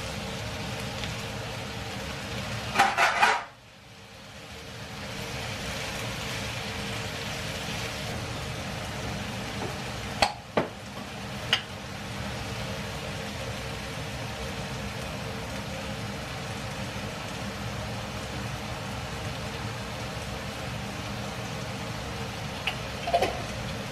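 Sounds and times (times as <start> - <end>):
food sizzling in a frying pan: 0.0 - 23.9.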